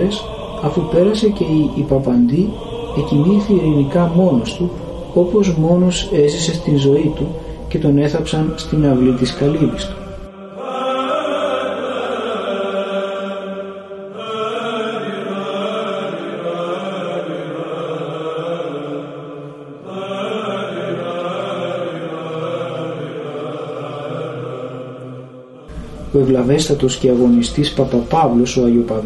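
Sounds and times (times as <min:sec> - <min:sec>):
voices chanting: 0:00.0 - 0:29.0.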